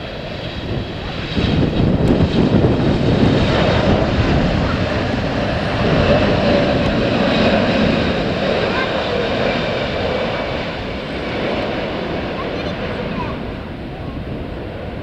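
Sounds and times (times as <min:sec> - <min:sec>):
airliner engines rushing overhead: 0:00.0 - 0:15.0.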